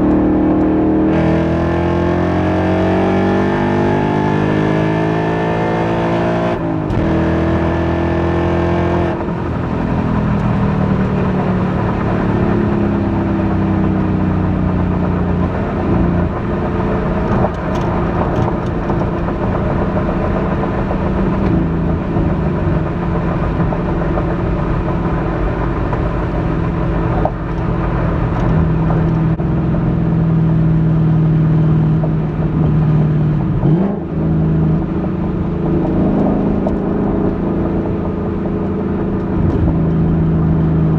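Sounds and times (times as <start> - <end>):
car engine exhaust: 0.0 - 40.9.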